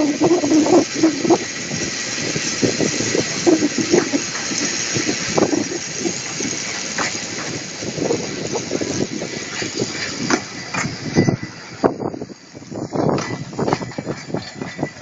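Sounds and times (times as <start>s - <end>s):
tram clanks and rattles: 0.0s - 15.0s
tram running on rails: 0.0s - 15.0s.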